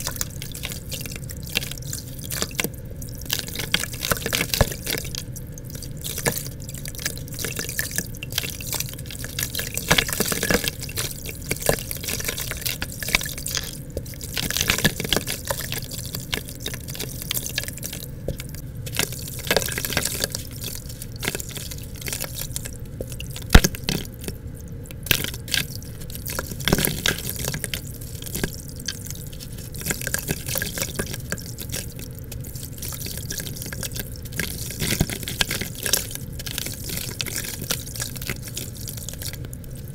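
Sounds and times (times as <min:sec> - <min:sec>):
small irregular crackles: 0:00.0 - 0:39.9
water dripping and splashing: 0:00.0 - 0:39.9.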